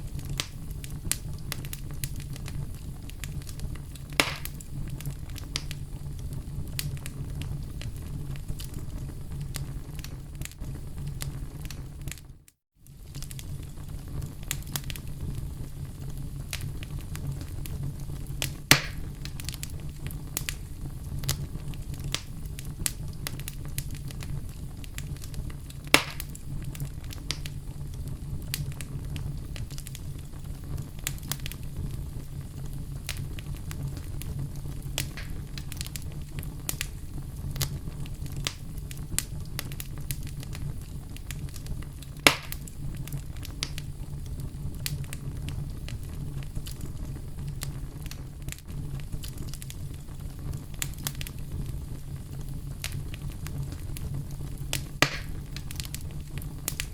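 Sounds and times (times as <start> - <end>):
low fire rumble: 0.0 - 56.9
wood fire crackling and popping: 0.0 - 56.9.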